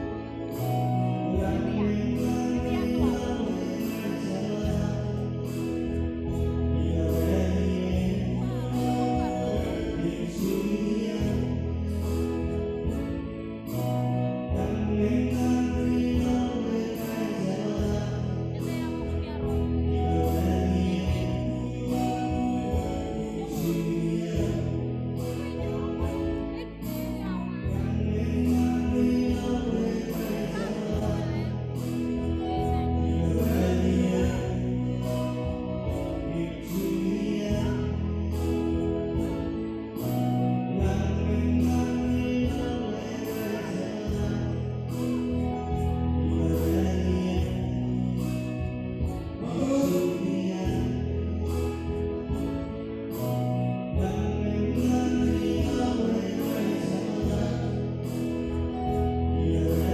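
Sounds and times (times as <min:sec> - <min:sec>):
bass: 0:00.0 - 0:59.9
electronic keyboard: 0:00.0 - 0:59.9.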